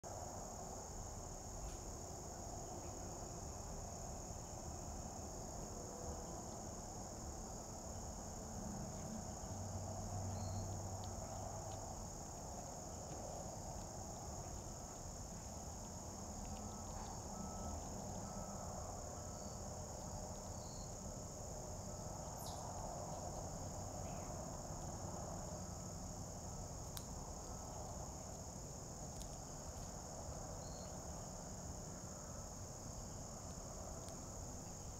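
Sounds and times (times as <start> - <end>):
insects chorus: 0.0 - 34.9
faint low rumble: 0.1 - 34.9.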